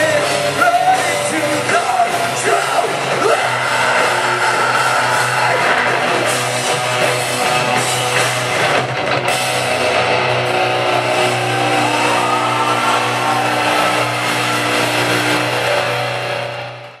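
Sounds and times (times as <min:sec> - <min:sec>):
live metal band playing loud: 0:00.0 - 0:17.0.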